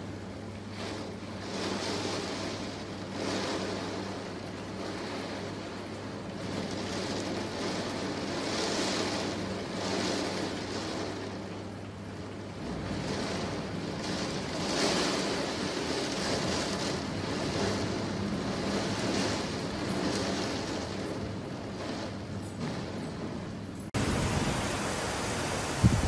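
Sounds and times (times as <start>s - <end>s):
heavy rain: 0.0s - 26.0s
storm wind: 0.0s - 26.0s.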